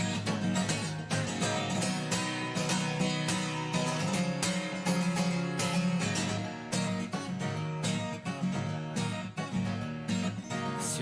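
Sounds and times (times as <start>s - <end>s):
guitar strumming: 0.0s - 11.0s.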